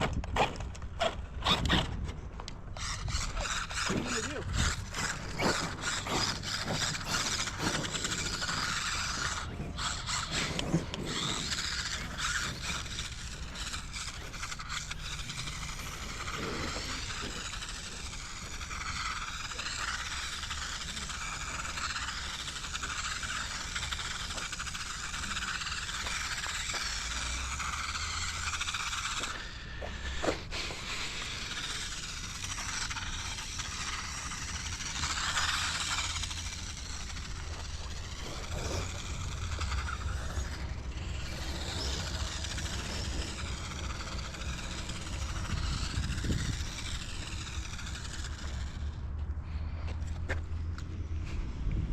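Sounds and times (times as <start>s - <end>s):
small electric motor whining: 0.0s - 51.9s
tyres scraping rough ground: 0.0s - 51.9s.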